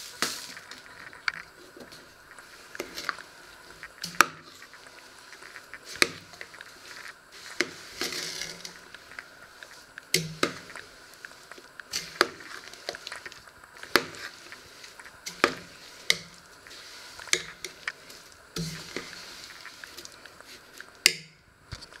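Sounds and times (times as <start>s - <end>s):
spoon scraping pot: 2.6s - 20.8s.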